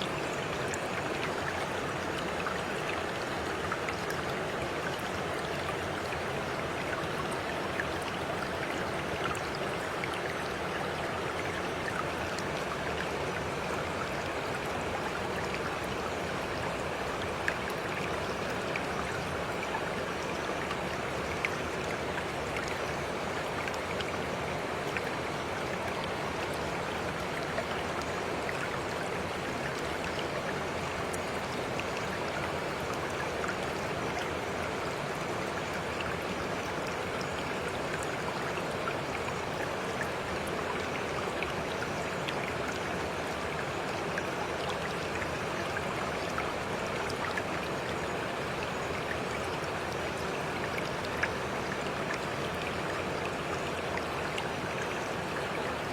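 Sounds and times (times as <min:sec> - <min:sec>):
flowing stream water: 0:00.0 - 0:55.9.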